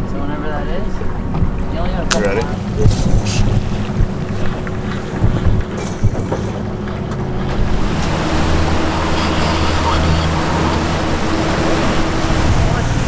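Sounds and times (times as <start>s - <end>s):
low engine drone: 0.0s - 13.0s
water rushing past boat hull: 0.2s - 13.0s
wind on microphone: 1.1s - 13.0s.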